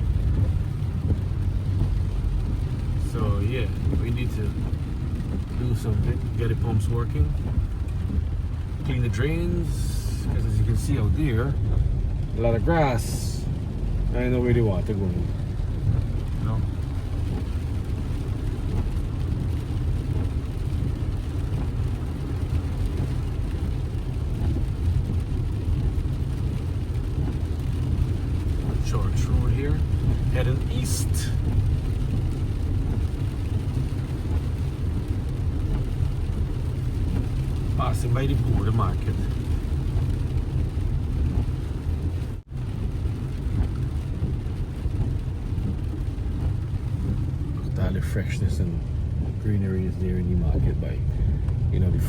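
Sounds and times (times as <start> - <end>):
car engine and road rumble: 0.0 - 52.0.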